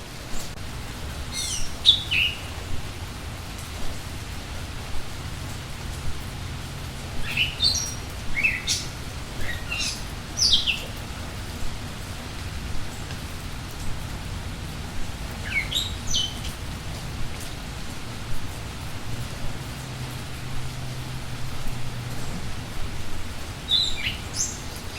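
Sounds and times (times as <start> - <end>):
rain falling: 0.0 - 24.9
songbirds chirping: 0.1 - 24.9.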